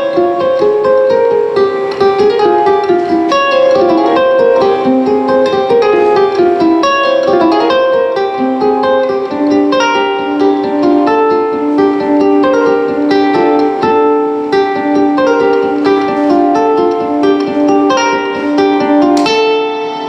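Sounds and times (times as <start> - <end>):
plucked string instrument: 0.0 - 20.0.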